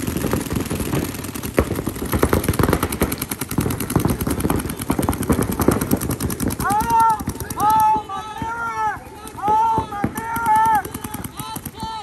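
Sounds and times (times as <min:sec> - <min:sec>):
paintball markers firing rapidly: 0:00.0 - 0:12.0.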